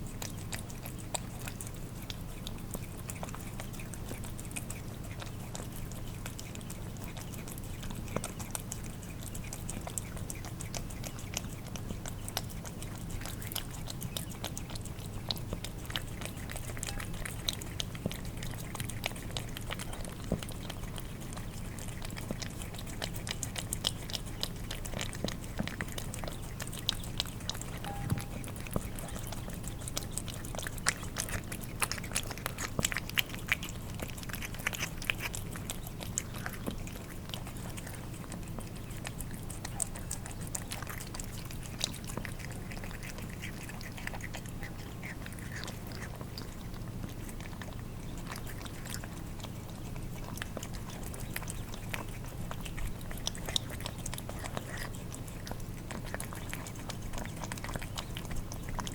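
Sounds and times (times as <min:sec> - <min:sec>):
cats licking and chewing: 0:00.0 - 0:58.9
low steady hum: 0:00.0 - 0:58.9.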